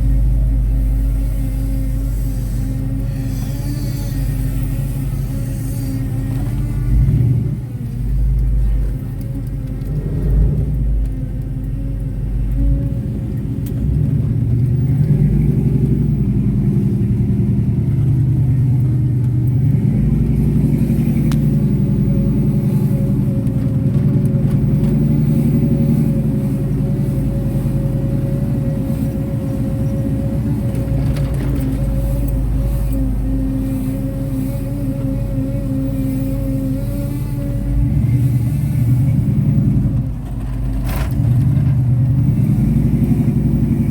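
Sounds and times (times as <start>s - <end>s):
car exhaust accelerating: 0.0s - 43.9s
fuel pump whine: 0.0s - 43.9s.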